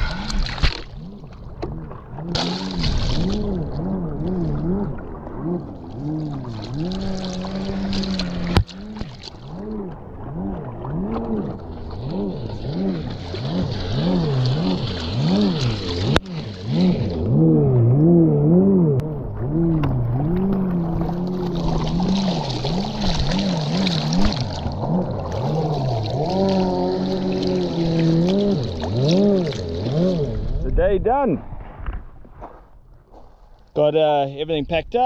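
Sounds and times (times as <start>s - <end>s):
jet ski engine revving: 1.0s - 30.6s.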